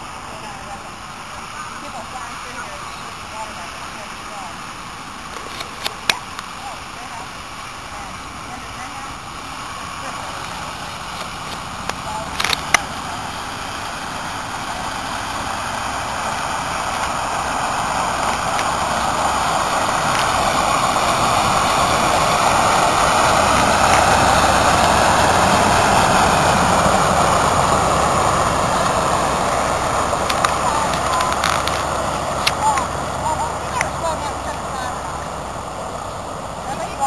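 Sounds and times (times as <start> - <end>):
road vehicle passing: 0.0 - 37.0.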